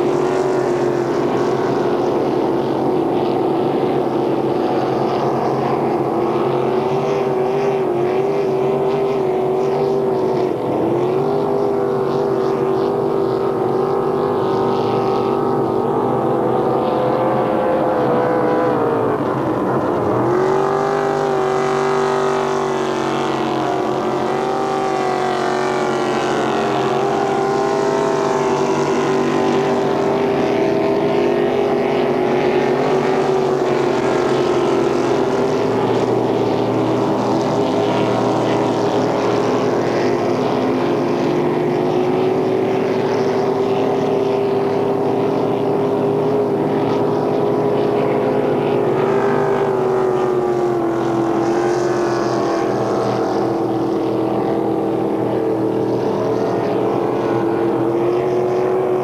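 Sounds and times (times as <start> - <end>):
motorboat engine running high: 0.0 - 59.0.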